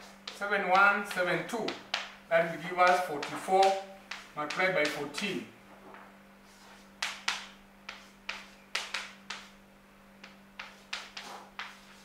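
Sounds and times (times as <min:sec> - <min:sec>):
chalk tapping on chalkboard: 0:00.0 - 0:05.3, 0:06.5 - 0:09.6, 0:10.2 - 0:12.0.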